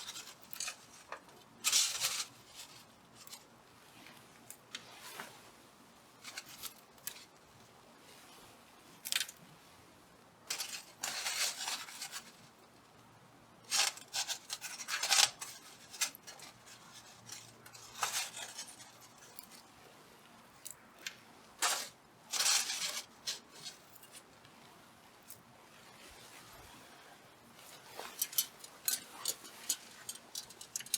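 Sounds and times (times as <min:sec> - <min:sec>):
rustling: 0:00.0 - 0:09.8, 0:10.4 - 0:30.9.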